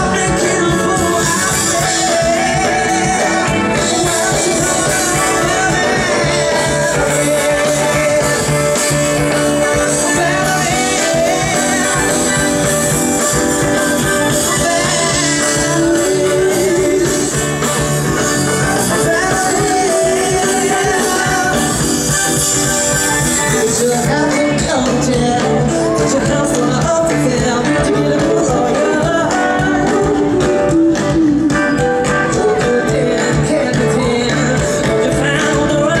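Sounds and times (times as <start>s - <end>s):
drums: 0.0s - 36.0s
guitar: 0.0s - 36.0s
live pop-rock band: 0.0s - 36.0s
person singing: 0.0s - 36.0s.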